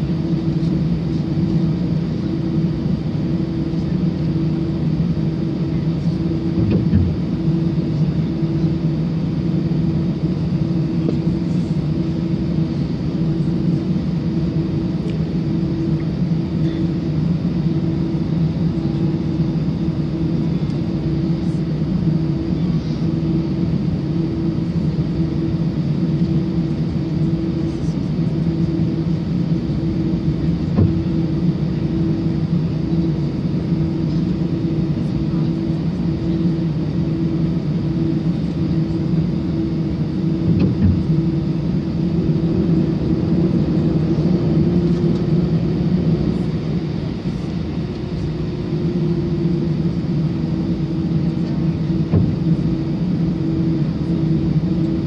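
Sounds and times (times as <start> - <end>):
aircraft cabin engine drone: 0.0 - 55.0.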